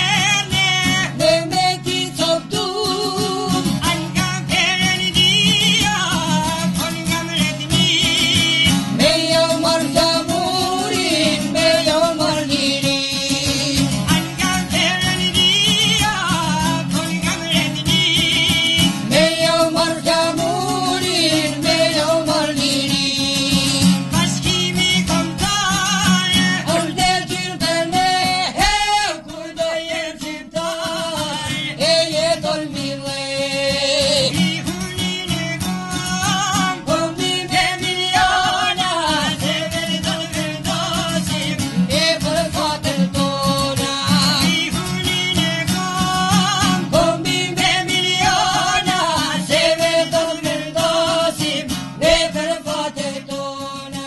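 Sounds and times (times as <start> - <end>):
man singing: 0.0 - 54.0
plucked lutes: 0.0 - 54.0.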